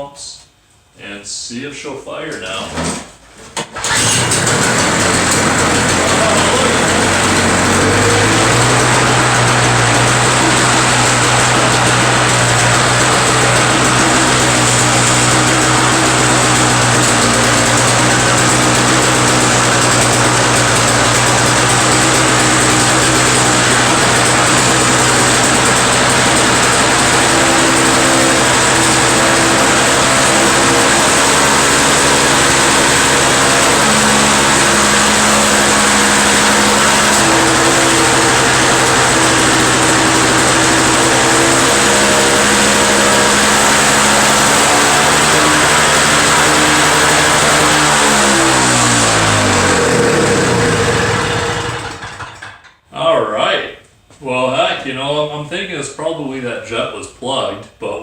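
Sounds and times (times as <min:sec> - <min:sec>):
snow blower engine running: 0:03.7 - 0:52.7.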